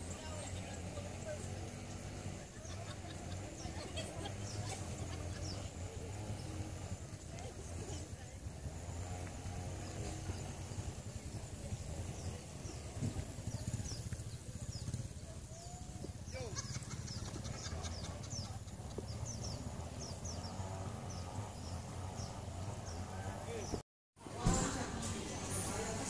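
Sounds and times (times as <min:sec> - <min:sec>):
birds chirping: 0:00.0 - 0:23.8
low outdoor rumble: 0:00.0 - 0:26.0.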